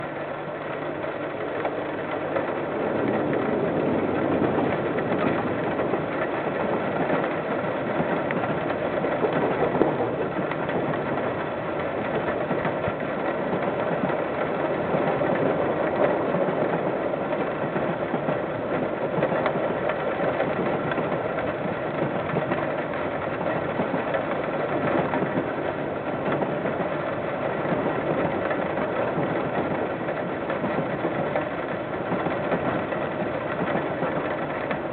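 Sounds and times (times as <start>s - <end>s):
train running: 0.0s - 34.9s.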